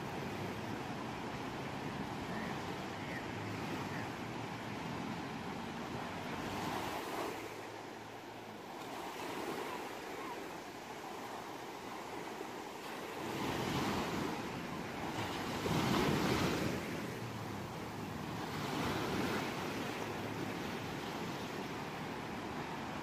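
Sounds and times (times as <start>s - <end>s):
ocean waves washing onto shore: 0.0s - 23.0s.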